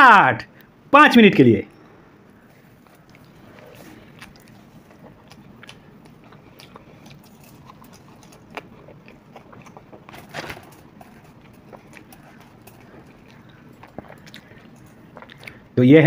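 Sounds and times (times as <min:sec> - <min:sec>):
person chewing crunchy food: 0:02.4 - 0:15.8.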